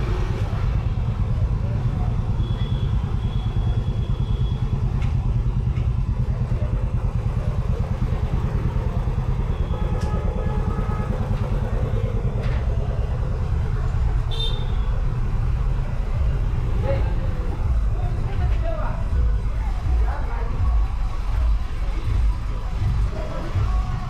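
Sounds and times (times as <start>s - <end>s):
vehicle engines running: 0.0s - 24.0s.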